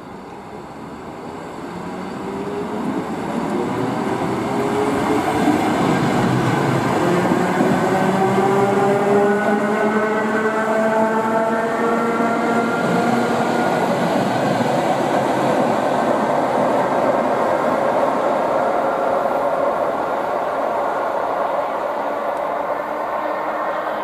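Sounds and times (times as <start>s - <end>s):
electric train whine: 0.0s - 24.0s.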